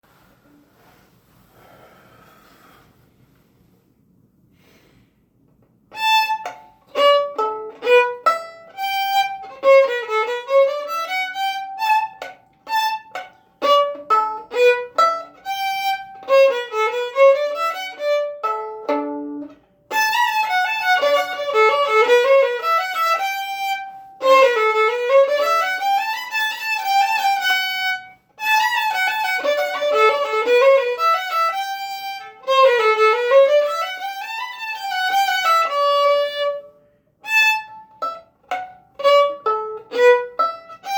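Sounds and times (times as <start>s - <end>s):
violin playing lively piece: 5.9s - 40.9s.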